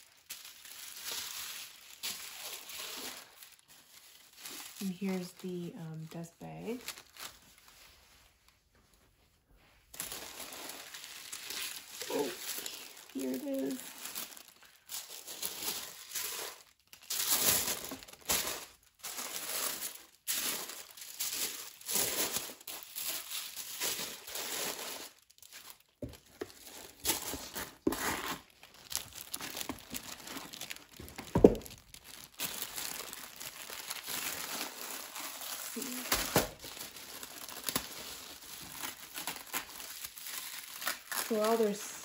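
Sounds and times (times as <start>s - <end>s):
tissue paper rustling: 0.0s - 42.0s.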